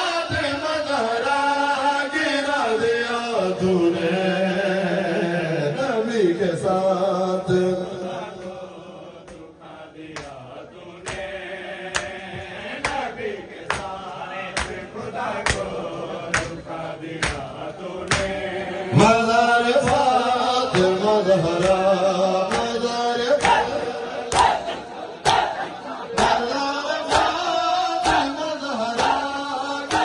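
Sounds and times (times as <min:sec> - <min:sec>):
men chanting over a microphone: 0:00.0 - 0:30.0.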